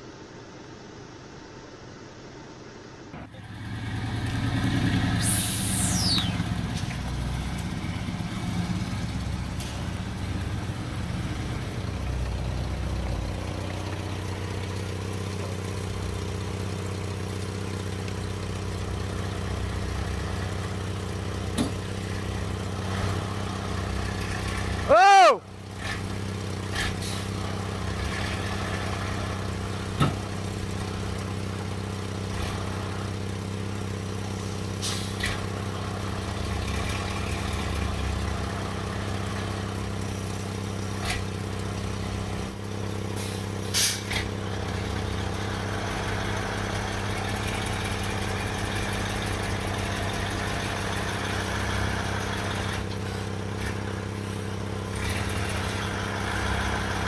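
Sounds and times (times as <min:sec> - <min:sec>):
heavy vehicle engine running: 0:03.0 - 0:57.0.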